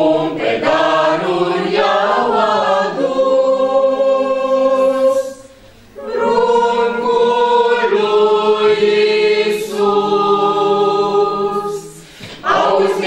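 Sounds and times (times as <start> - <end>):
group singing unaccompanied: 0.0 - 13.0.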